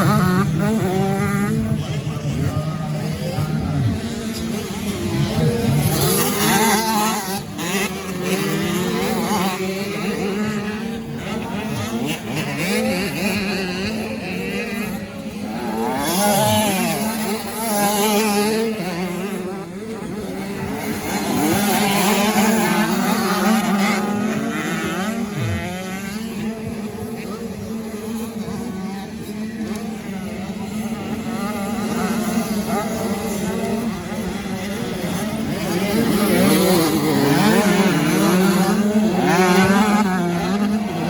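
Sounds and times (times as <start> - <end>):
motocross bikes revving: 0.0 - 41.0.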